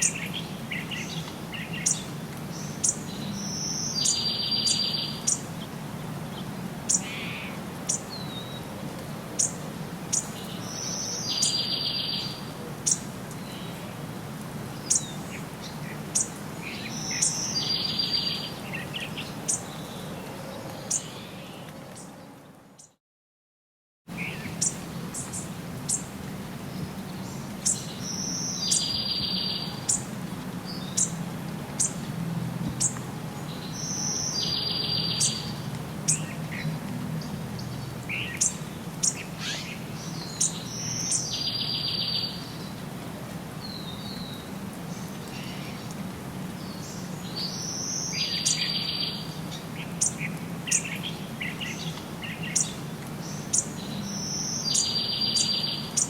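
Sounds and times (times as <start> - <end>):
songbirds chirping: 0.0 - 23.0, 24.1 - 56.0.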